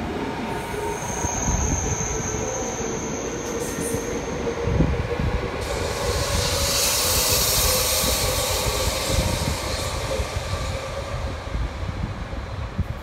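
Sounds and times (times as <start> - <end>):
train hum and rumble: 0.0 - 13.0
train wheels hissing: 0.1 - 13.0.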